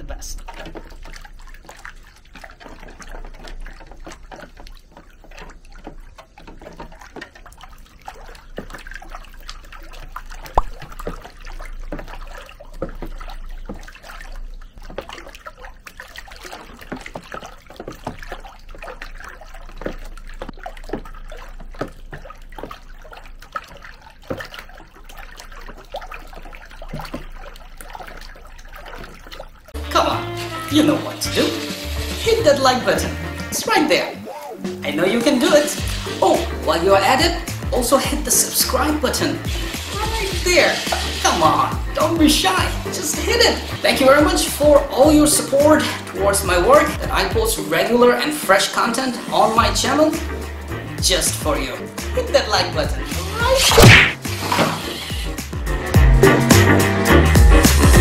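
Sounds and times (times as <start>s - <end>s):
water sloshing in plastic tub: 0.0s - 58.0s.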